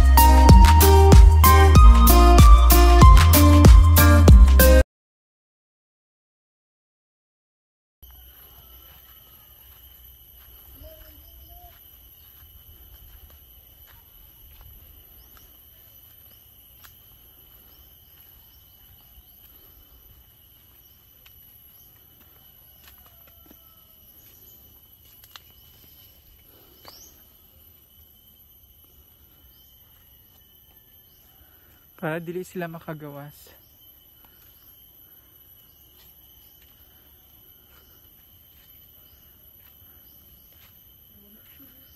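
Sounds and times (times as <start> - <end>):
high-pitched insect drone: 0.0 - 4.3, 8.0 - 41.9
faint bird chirps: 8.0 - 41.9.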